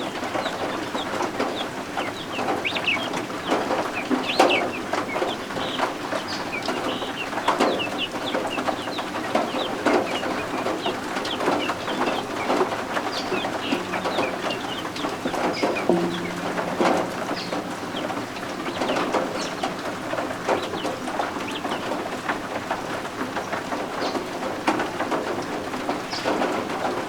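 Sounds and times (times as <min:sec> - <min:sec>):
baby birds peeping: 0:00.1 - 0:22.1.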